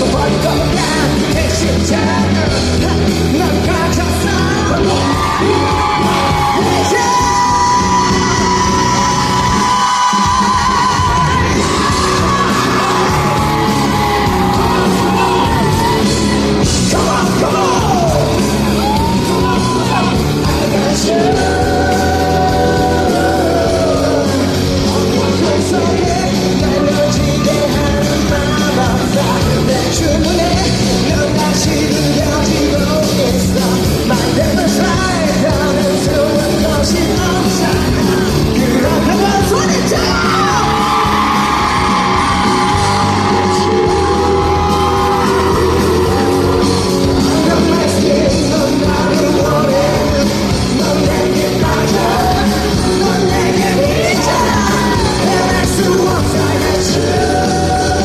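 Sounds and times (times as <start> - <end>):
live rock band playing: 0.0 - 58.0
wailing lead guitar line: 0.0 - 58.0.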